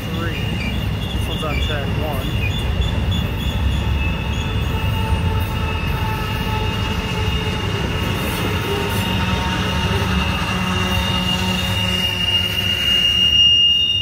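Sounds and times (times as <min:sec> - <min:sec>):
low rumble of train wheels: 0:00.0 - 0:14.0
high-pitched wheel squeal: 0:00.1 - 0:14.0.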